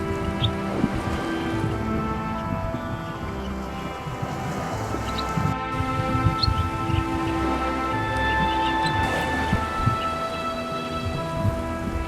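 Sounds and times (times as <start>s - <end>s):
sustained layered chords: 0.0s - 12.0s.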